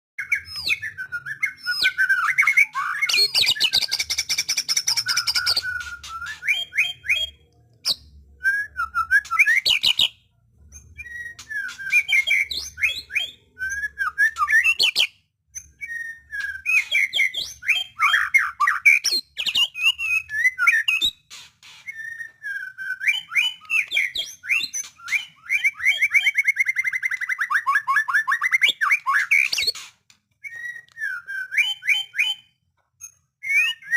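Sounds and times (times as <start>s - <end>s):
bird singing whistled phrases: 0.2s - 10.2s, 10.8s - 21.2s, 21.9s - 29.8s, 30.4s - 33.9s.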